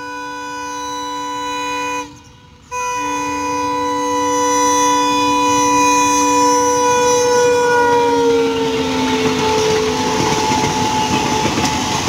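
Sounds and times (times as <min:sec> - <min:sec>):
train horn blasts: 0:00.0 - 0:12.0.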